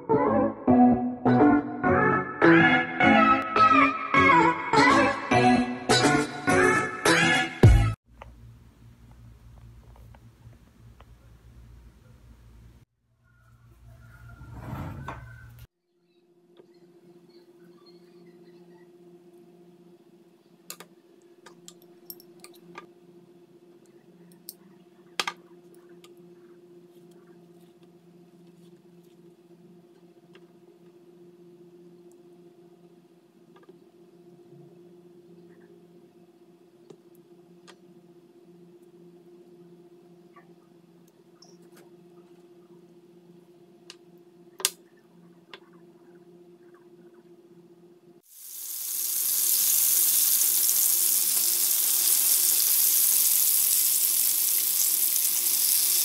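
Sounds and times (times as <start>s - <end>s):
low electrical hum: 8.1s - 56.0s.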